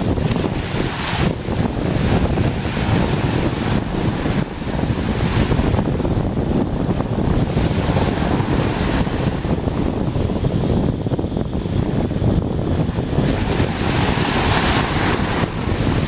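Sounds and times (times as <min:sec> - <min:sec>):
sea waves washing on beach: 0:00.0 - 0:16.0
wind buffeting microphone: 0:00.0 - 0:16.0.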